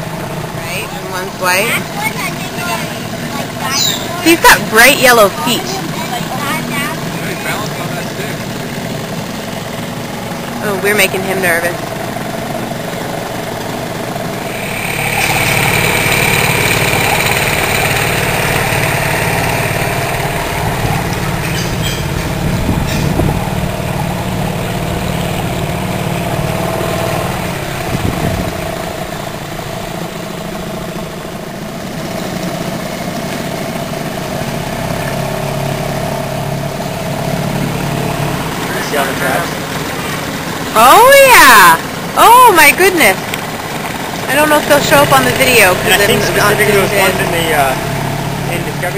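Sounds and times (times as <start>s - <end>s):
outboard motor running: 0.0s - 48.9s.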